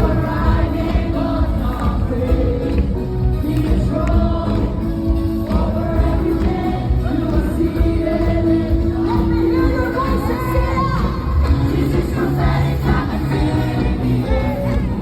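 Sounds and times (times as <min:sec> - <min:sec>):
band playing with heavy bass: 0:00.0 - 0:15.0
many voices singing together: 0:00.0 - 0:15.0.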